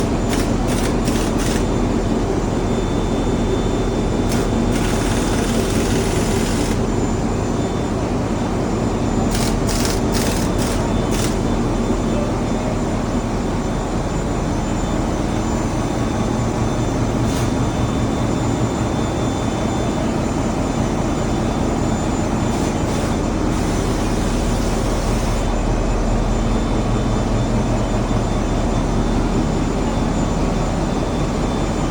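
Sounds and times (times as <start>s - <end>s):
engine room machinery drone: 0.0s - 31.9s.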